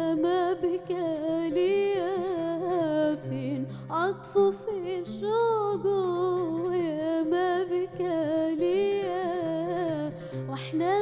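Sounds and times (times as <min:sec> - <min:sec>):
low sustained oud: 0:00.0 - 0:11.0
woman singing: 0:00.0 - 0:11.0.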